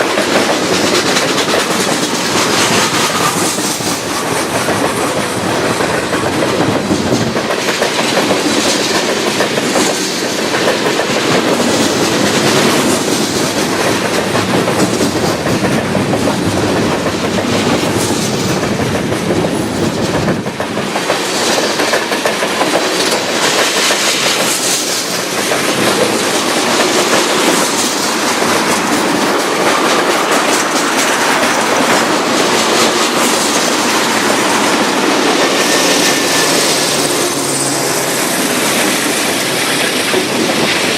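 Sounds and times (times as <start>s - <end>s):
freight train wheels on rail: 0.0s - 40.9s
wheels clacking over rail joints: 0.0s - 40.9s.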